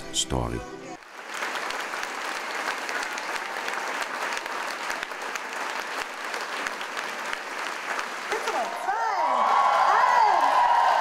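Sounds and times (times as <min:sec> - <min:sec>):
large audience applauding: 0:01.0 - 0:11.0.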